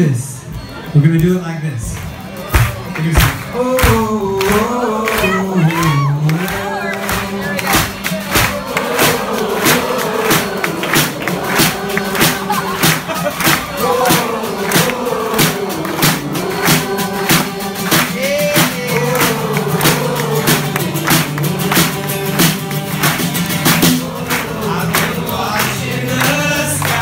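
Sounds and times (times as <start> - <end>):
steady beat of sharp hits: 1.2 - 5.7, 6.4 - 27.0
acoustic guitar: 1.8 - 27.0
voices singing together: 2.5 - 27.0.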